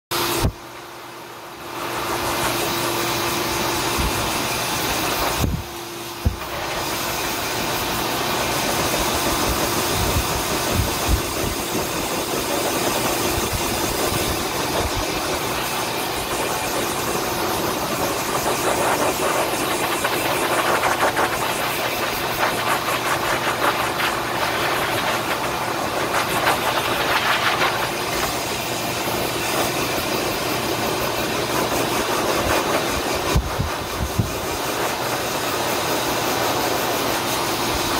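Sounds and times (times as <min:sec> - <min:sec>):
pet dryer blowing air: 0:00.1 - 0:37.9.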